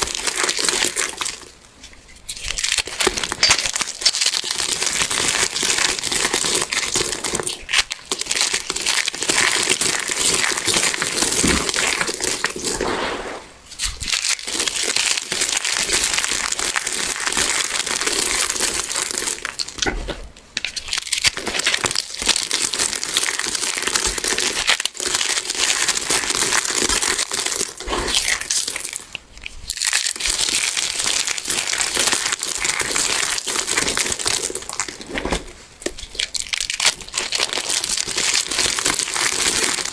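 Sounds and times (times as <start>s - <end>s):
crunchy soap crushing: 0.0s - 12.9s, 13.8s - 39.9s.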